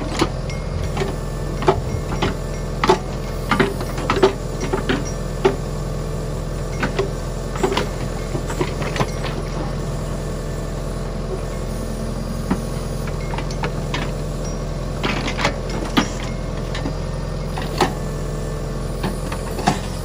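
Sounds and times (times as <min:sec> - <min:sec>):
backhoe bucket clanks: 0:00.0 - 0:09.8, 0:12.6 - 0:20.0
tractor diesel engine running: 0:00.0 - 0:20.0.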